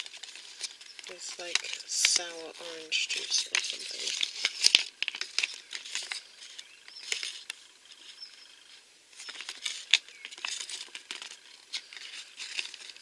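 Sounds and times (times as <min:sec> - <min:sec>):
plastic toy and paper rustling: 0:00.0 - 0:13.0.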